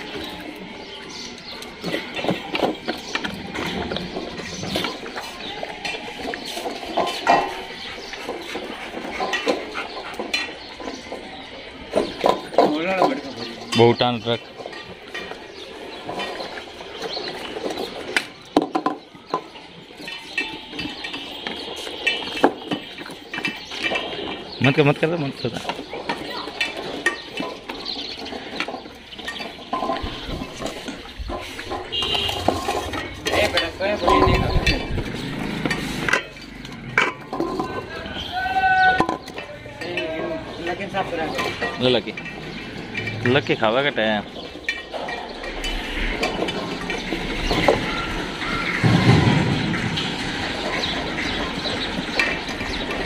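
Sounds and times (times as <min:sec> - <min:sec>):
metal bowls clinking and knocking: 0:00.0 - 0:53.0.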